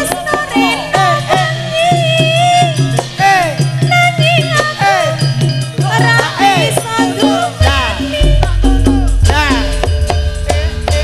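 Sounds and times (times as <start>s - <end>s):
gamelan ensemble: 0.0s - 11.0s
steady drum beat: 0.0s - 11.0s.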